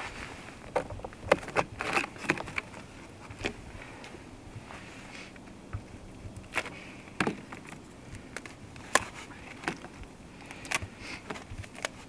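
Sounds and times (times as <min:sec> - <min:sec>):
dry bark cracking: 0:00.7 - 0:04.2, 0:05.3 - 0:12.0.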